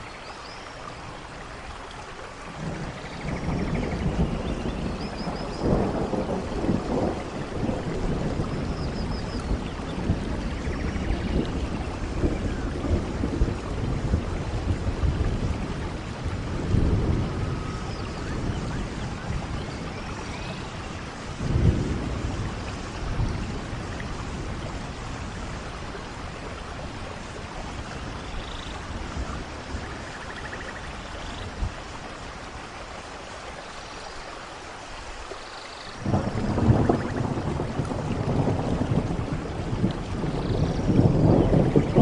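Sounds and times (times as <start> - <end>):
steady rain: 0.0 - 42.0
thunder rumbling: 2.5 - 32.7, 36.0 - 42.0.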